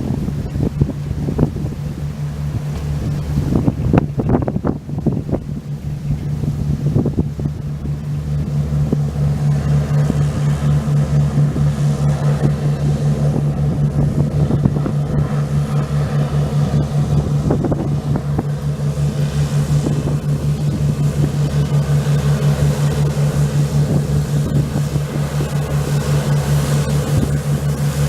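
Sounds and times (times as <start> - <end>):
pulsing engine hum: 0.0 - 28.0.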